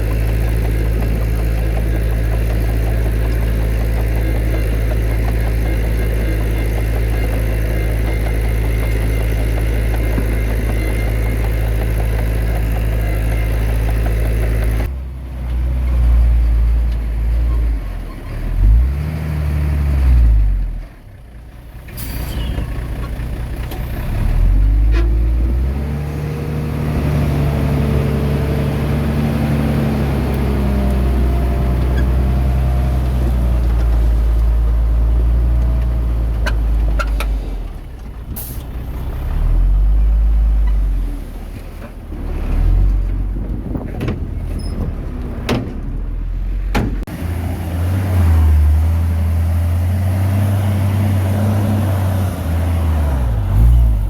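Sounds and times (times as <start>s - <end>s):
diesel machinery engines revving: 0.0s - 54.0s.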